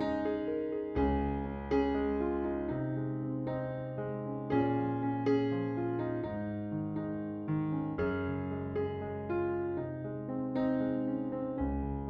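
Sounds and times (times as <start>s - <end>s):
soft keyboard chords: 0.0s - 12.0s.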